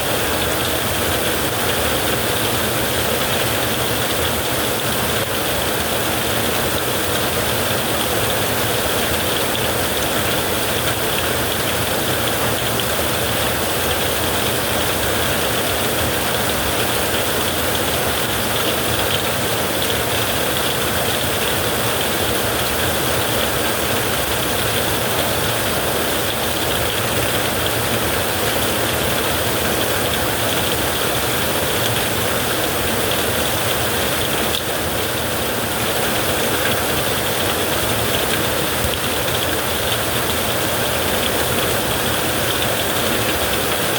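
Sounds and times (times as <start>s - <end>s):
heavy rain hiss: 0.0s - 43.9s.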